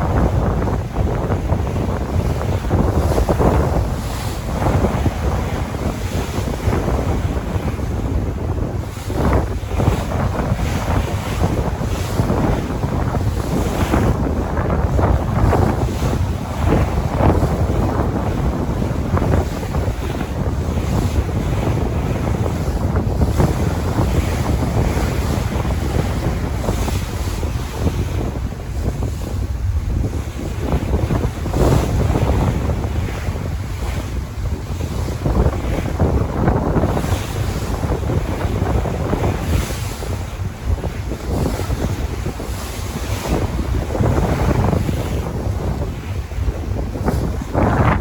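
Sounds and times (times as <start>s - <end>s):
sea waves breaking: 0.0s - 48.0s
wind rumbling on microphone: 0.0s - 48.0s.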